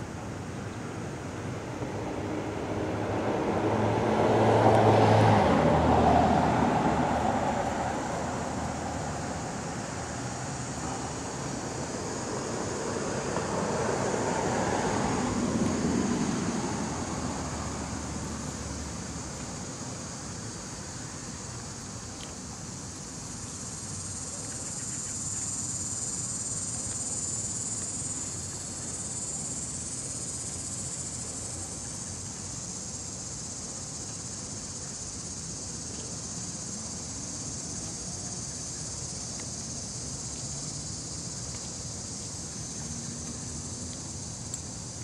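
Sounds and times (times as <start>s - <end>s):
insects chirring: 1.5s - 45.0s.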